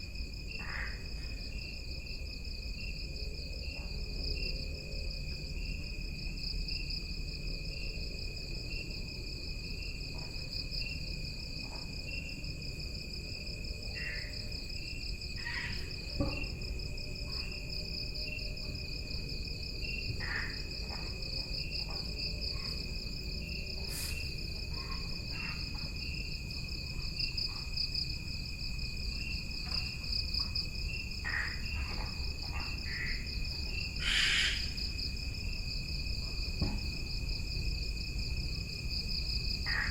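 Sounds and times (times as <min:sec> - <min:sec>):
insect chirping in pulses: 0:00.0 - 0:39.9.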